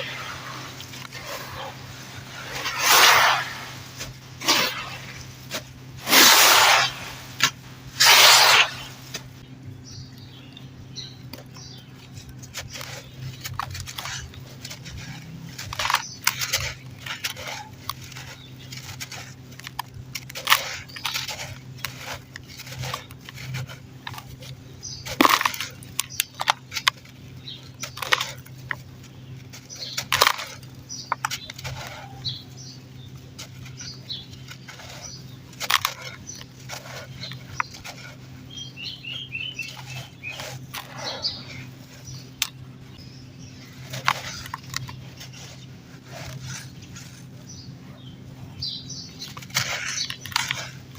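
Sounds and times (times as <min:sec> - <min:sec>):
dry dirt crumbling and crunching: 0:00.0 - 0:50.9.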